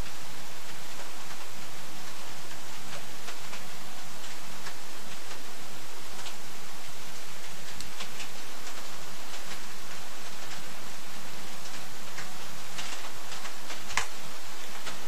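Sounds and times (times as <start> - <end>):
ticks of raindrops striking: 0.0 - 6.5, 7.1 - 15.0
rain falling: 0.0 - 15.0.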